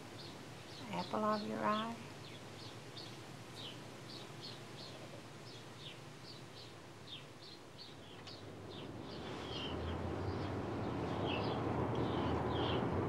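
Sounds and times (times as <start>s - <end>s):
low background hum: 0.0s - 13.0s
small bird chirping: 0.1s - 12.9s.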